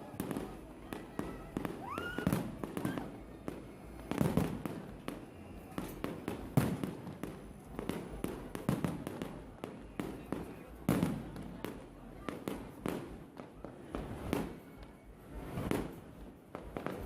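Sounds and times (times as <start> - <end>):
fireworks bangs and booms: 0.0 - 17.0
fireworks crackles: 0.0 - 17.0.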